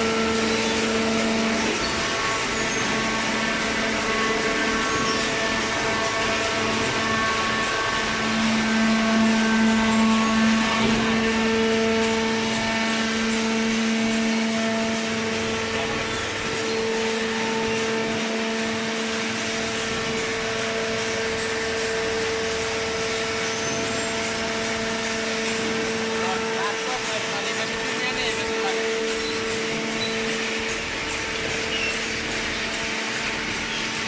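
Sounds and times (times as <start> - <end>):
baler motor and pump whine: 0.0 - 34.0.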